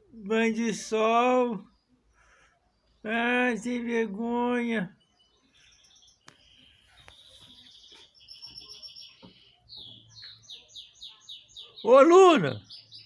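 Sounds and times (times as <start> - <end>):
small bird chirping: 1.4 - 13.0.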